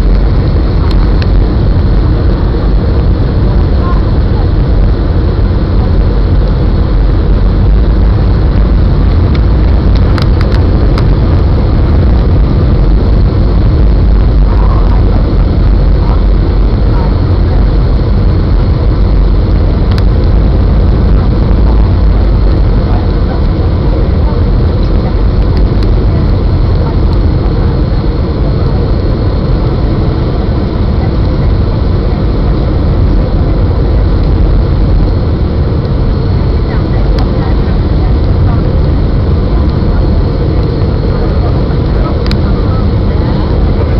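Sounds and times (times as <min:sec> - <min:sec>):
airliner cabin engine noise: 0:00.0 - 0:43.9
faint high whine: 0:00.0 - 0:43.9.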